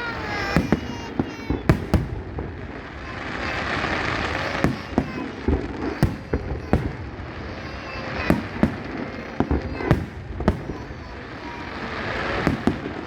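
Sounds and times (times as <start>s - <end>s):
fireworks hissing and crackling: 0.0s - 13.0s.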